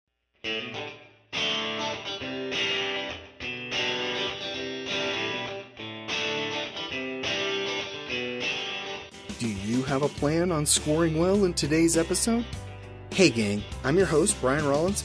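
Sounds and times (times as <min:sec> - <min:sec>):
strummed guitar chords: 0:00.4 - 0:15.0.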